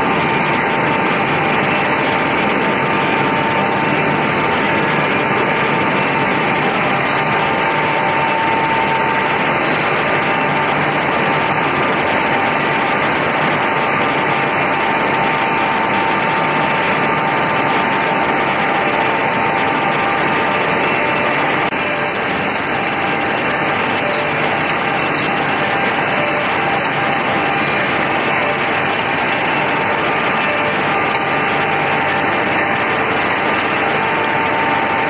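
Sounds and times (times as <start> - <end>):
machine whirring with high whine: 0.0 - 35.0.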